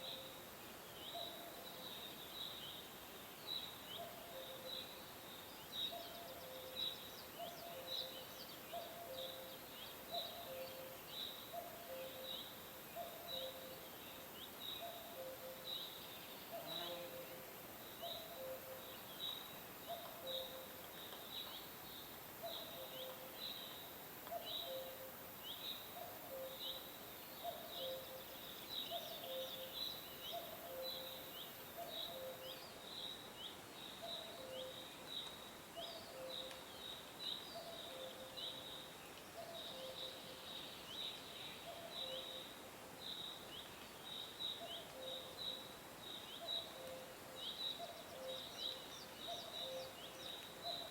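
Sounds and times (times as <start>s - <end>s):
faint high hiss: 0.0s - 50.9s.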